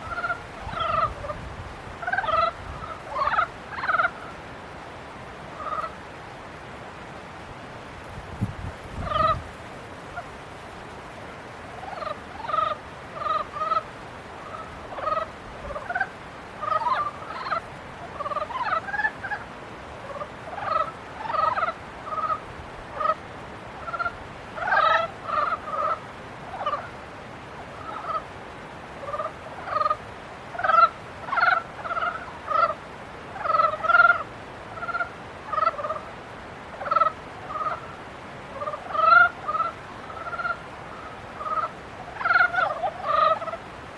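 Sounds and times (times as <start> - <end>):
frogs croaking: 0.0 - 6.2, 8.9 - 10.4, 11.6 - 43.8.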